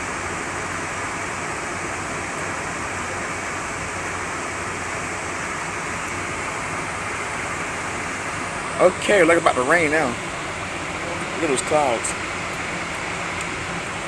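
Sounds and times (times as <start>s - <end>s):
wind and water rushing: 0.0s - 14.0s.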